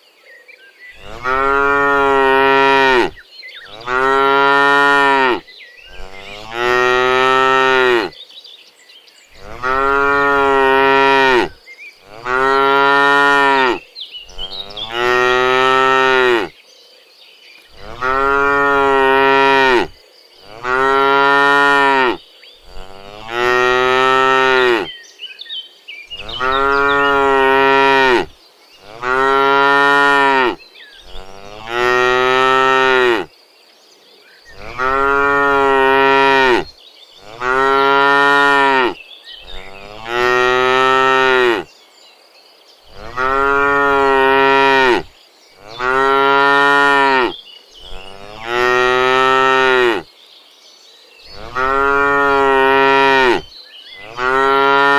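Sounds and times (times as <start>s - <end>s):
cows mooing: 1.0s - 8.1s, 9.4s - 16.5s, 17.7s - 24.9s, 26.2s - 33.3s, 34.5s - 41.7s, 42.9s - 50.0s, 51.3s - 54.9s.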